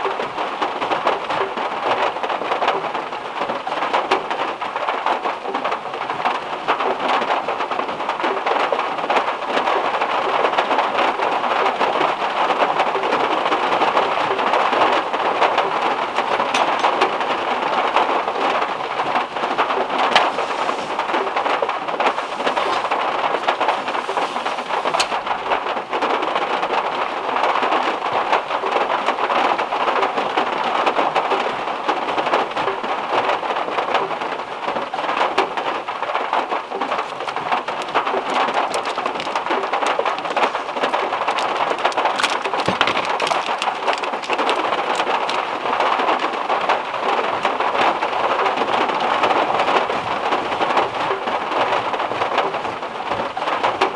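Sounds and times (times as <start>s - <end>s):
heavy rain on a metal car roof: 0.0s - 53.9s.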